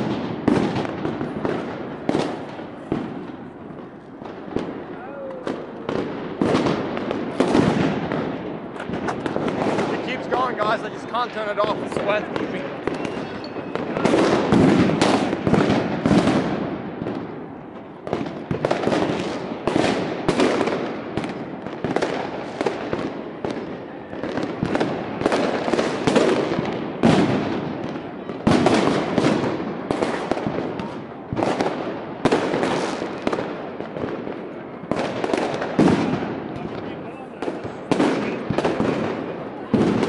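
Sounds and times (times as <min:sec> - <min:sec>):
fireworks and firecrackers banging: 0:00.0 - 0:40.0.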